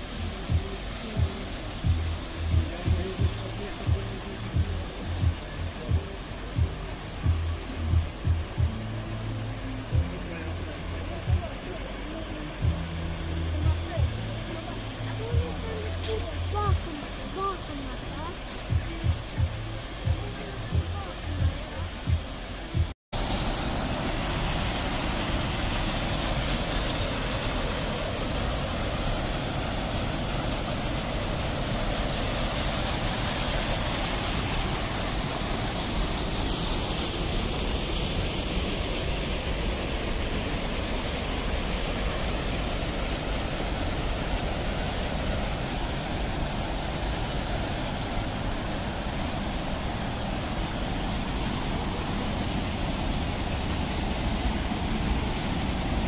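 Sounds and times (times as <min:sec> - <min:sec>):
fast-flowing stream water: 0:00.0 - 0:56.0.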